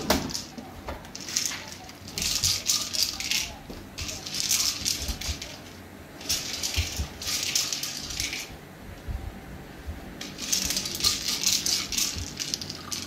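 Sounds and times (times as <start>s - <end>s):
dog toy rattling and scuffling: 0.0s - 8.6s, 10.2s - 13.0s.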